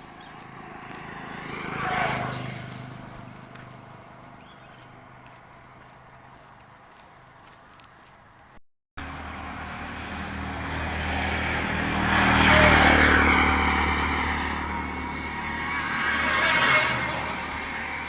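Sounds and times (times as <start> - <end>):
vehicle passing by: 0.0 - 8.1, 9.0 - 18.0.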